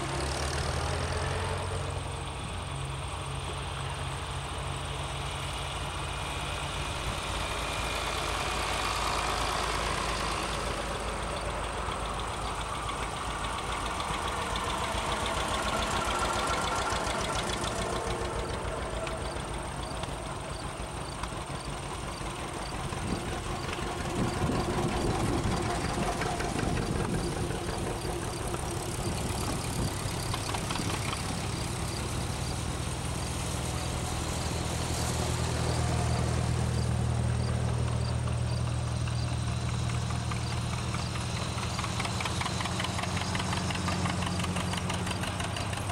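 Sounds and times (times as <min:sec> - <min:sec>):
tractor engines passing: 0:00.0 - 0:45.9.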